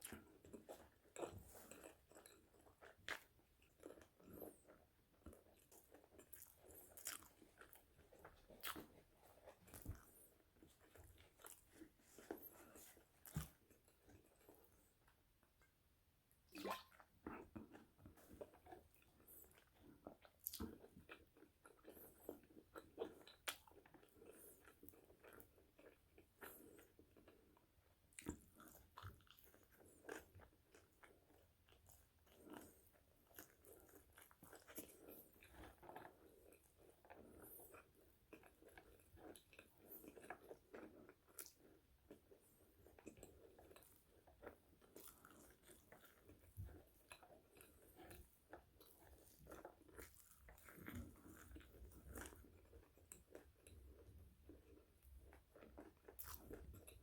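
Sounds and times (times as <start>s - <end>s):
crunchy chewing of fries: 0.0s - 15.8s, 17.1s - 57.0s.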